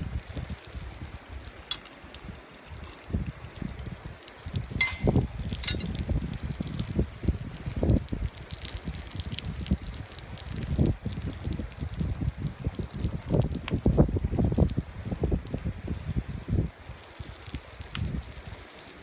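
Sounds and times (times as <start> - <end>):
wind gusting on microphone: 0.0 - 19.0.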